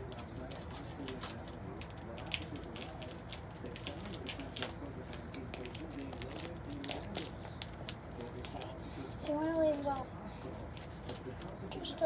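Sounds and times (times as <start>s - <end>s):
tape and paper crinkling: 0.0s - 12.0s.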